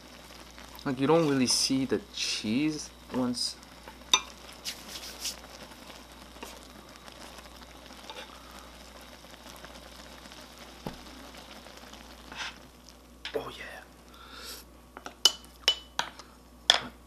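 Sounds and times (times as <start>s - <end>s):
broth bubbling in a pot: 0.0s - 16.8s.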